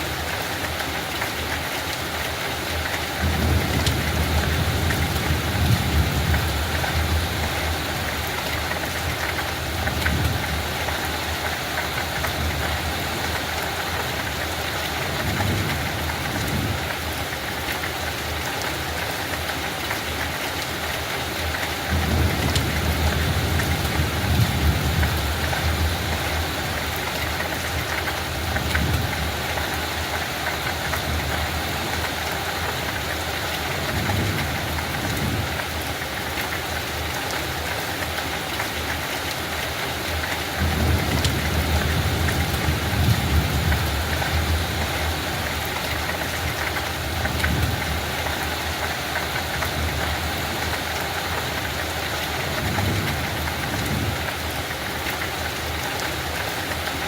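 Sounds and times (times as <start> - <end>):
light rain hiss: 0.0 - 57.0.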